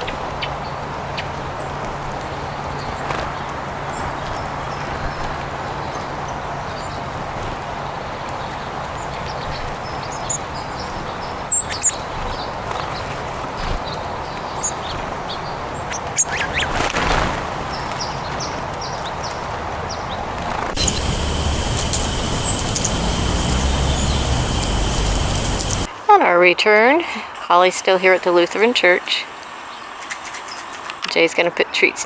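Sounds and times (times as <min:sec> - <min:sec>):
birds chirping: 0:00.0 - 0:32.0
steady outdoor background: 0:00.0 - 0:32.0.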